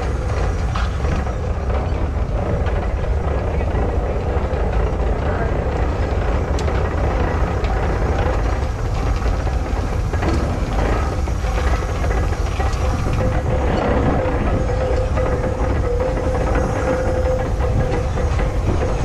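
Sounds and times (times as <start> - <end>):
steam traction engine rumbling: 0.0 - 19.0.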